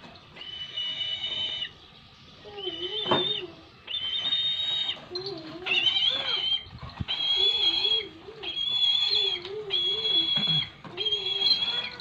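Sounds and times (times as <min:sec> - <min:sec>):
bird of prey calling: 0:00.3 - 0:12.0.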